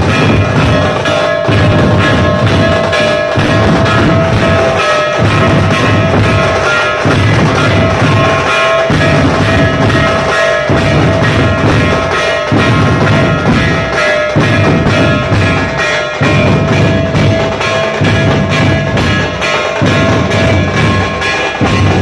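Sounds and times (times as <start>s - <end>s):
big drums pounding: 0.0s - 22.0s.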